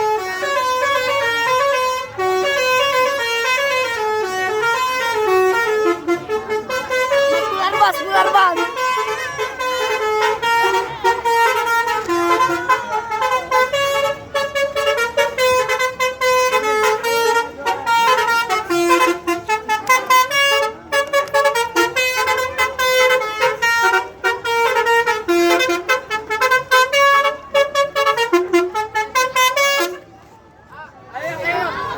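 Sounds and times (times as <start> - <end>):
melodic bus air horns: 0.0 - 30.2.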